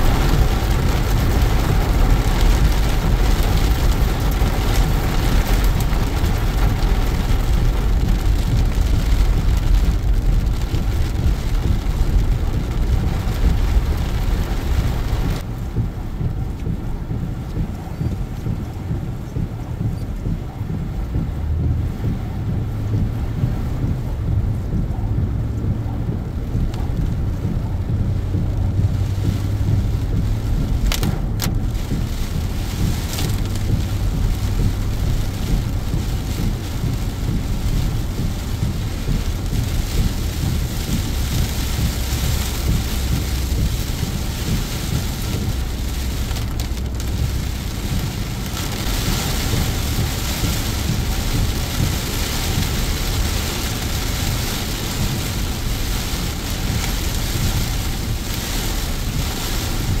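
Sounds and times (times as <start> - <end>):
heavy rain on car windshield: 0.0 - 60.0
tyres rumbling on wet road: 0.0 - 60.0.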